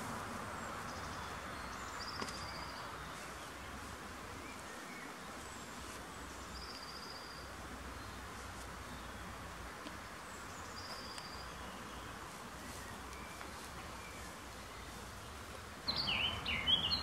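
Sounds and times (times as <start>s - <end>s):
small birds chirping: 0.0s - 17.0s
steady outdoor hiss: 0.0s - 17.0s.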